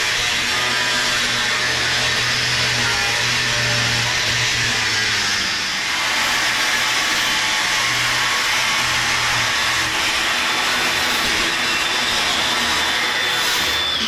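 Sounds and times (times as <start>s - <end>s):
angle grinder cutting steel: 0.0s - 14.0s.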